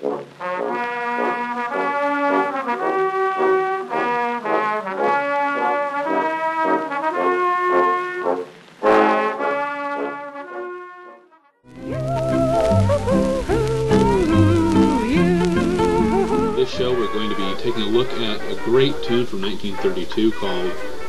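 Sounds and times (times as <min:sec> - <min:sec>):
brass music: 0:00.0 - 0:21.0.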